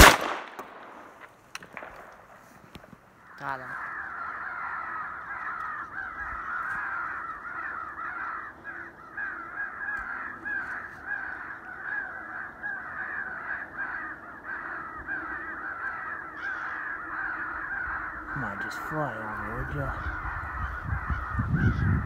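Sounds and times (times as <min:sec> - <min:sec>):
crows cawing: 0:01.7 - 0:22.0.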